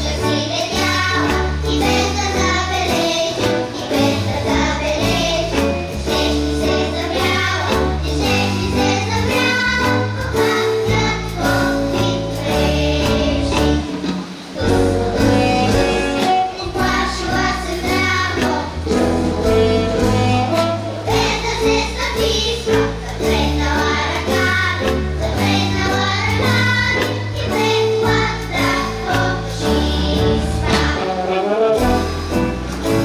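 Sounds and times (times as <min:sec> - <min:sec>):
children singing: 0:00.0 - 0:33.0
instrumental backing track: 0:00.0 - 0:33.0.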